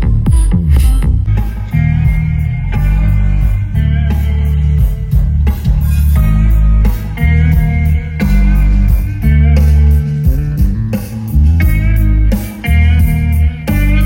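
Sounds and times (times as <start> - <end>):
deep bass line: 0.0 - 14.0
loud blues-rock music: 0.0 - 14.0.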